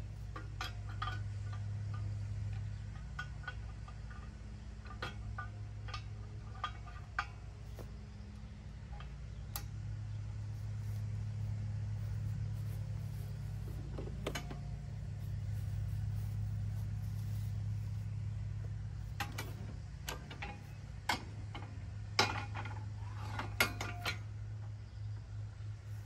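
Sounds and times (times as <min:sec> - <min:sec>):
metal hitch parts clanking: 0:00.0 - 0:24.4
tractor engine idling: 0:00.0 - 0:26.0.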